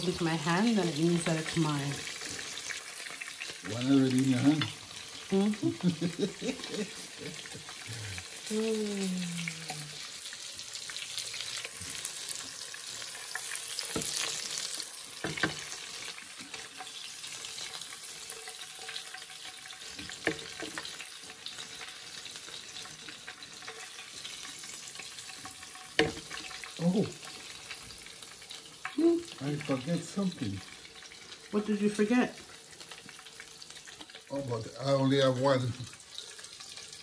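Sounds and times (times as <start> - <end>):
oil sizzling in frying pan: 0.0 - 37.0.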